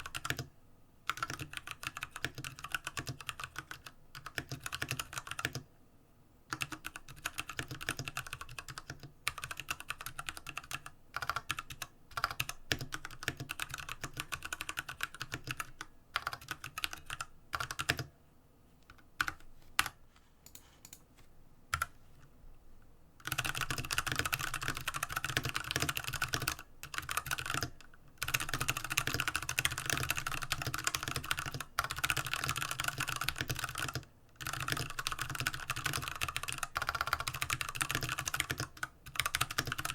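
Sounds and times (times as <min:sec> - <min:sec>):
typing on mechanical keyboard: 0:00.0 - 0:00.5, 0:01.1 - 0:05.7, 0:06.5 - 0:18.1, 0:18.9 - 0:21.0, 0:23.2 - 0:39.9.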